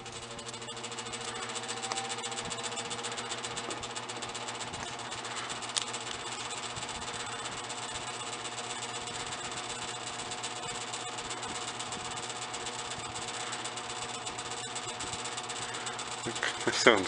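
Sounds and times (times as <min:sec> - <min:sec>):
box fan motor humming: 0:00.0 - 0:17.0
fast rattling tick: 0:00.0 - 0:17.0.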